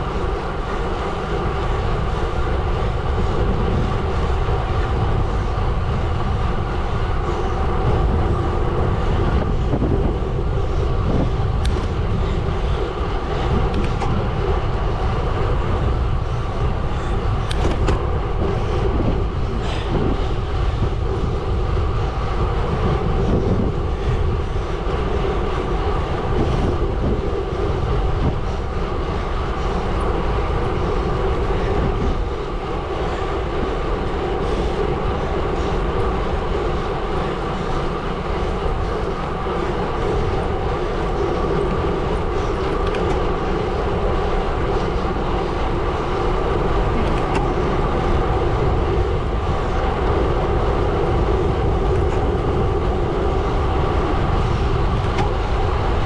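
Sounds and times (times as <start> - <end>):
bike tyres rolling on gravel: 0.0 - 56.0.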